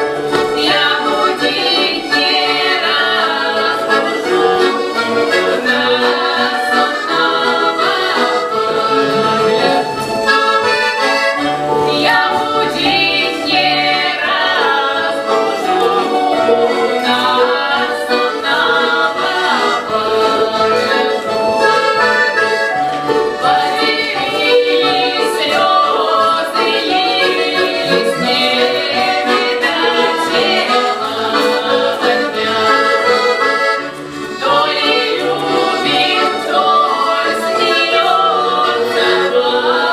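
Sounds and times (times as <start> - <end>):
accordion playing lively tune: 0.0 - 39.9
voices singing: 0.0 - 39.9.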